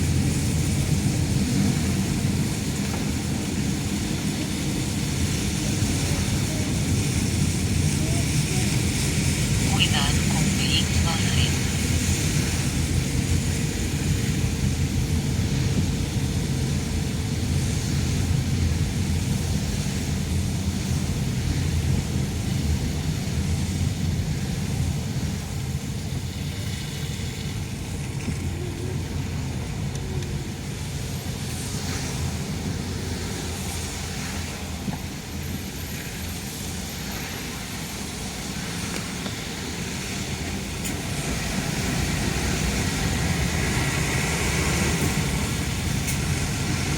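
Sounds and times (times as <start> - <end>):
car engine and tyre rumble: 0.0 - 9.7, 10.5 - 46.9.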